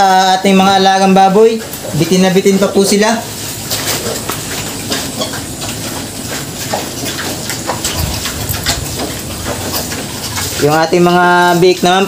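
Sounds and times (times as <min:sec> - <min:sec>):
pigs snuffling and chewing leaves: 0:00.0 - 0:12.0.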